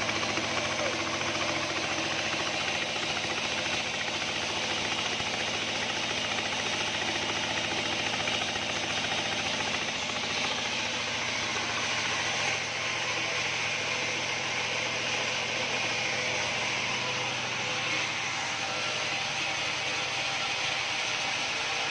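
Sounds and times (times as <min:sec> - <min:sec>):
band sawmill running: 0:00.0 - 0:21.9.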